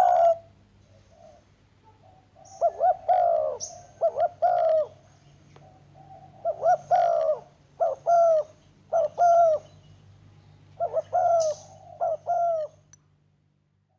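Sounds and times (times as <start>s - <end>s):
dove cooing: 0.0s - 9.8s, 10.7s - 12.9s
faint steady hum: 0.0s - 13.9s.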